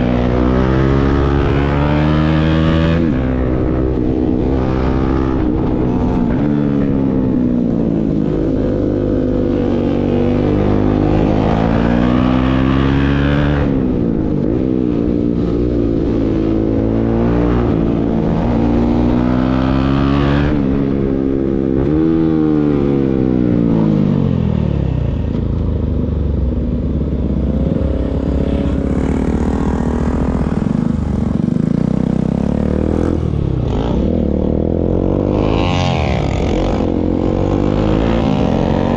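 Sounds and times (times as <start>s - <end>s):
motorcycle engine revving: 0.0s - 25.4s, 26.1s - 38.9s.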